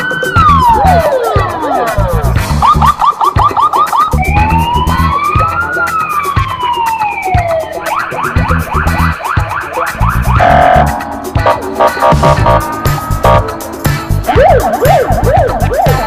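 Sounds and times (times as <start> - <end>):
electronic siren: 0.0 - 1.4, 2.6 - 13.5, 14.3 - 16.0
backing music with steady beat: 0.0 - 16.0.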